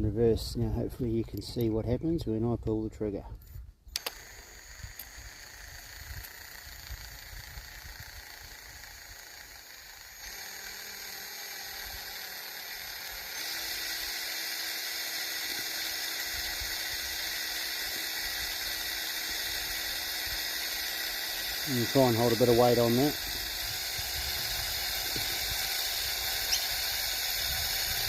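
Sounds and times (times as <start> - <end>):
power drill motor whining: 3.9 - 28.0.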